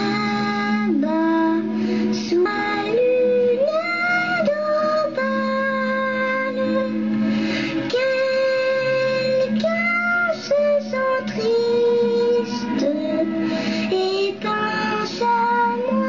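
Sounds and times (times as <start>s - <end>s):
instrumental backing: 0.0s - 16.0s
person singing slow song: 0.0s - 16.0s.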